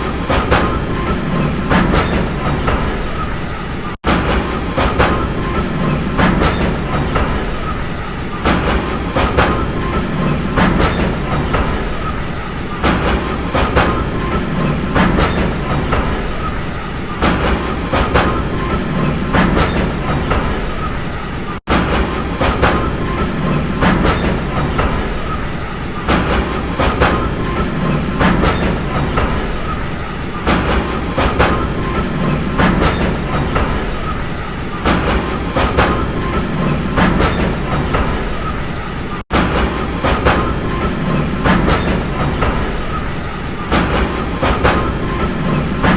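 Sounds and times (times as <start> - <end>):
train rumbling on track: 0.0 - 45.9
wheels clacking over rail joints: 0.0 - 45.9.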